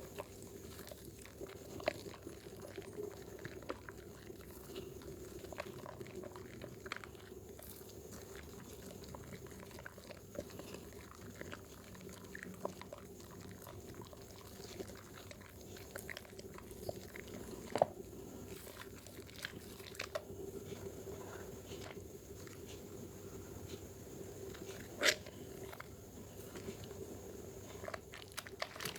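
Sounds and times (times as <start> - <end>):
soap lather squishing: 0.0 - 28.9
steady low hum: 0.0 - 28.9.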